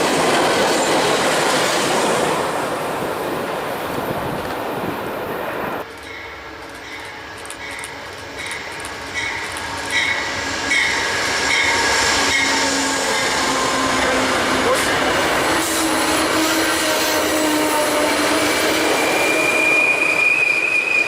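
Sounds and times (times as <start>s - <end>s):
train rolling on rails: 0.0s - 21.0s.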